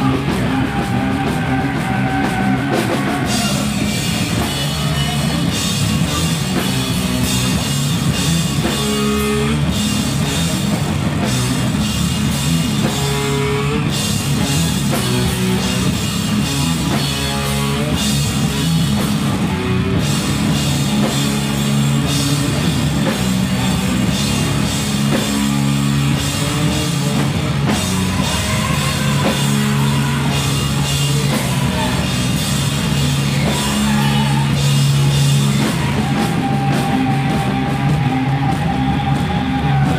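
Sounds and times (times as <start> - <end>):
distorted electric guitars: 0.0 - 39.9
pounding drum kit: 0.0 - 39.9.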